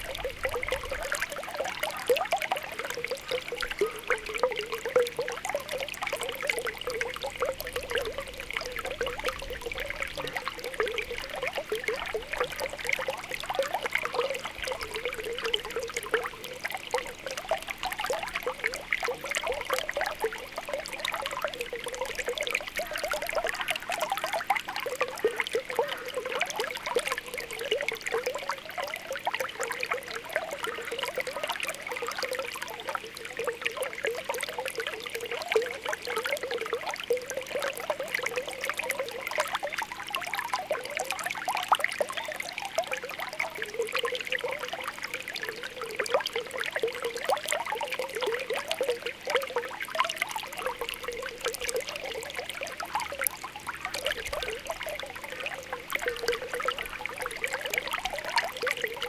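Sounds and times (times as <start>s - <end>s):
spring water bubbling: 0.0s - 59.0s
water trickling: 0.0s - 59.0s.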